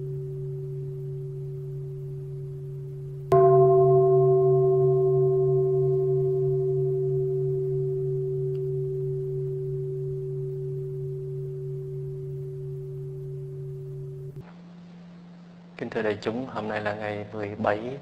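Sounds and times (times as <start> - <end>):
bowl bell ringing: 0.0 - 15.9.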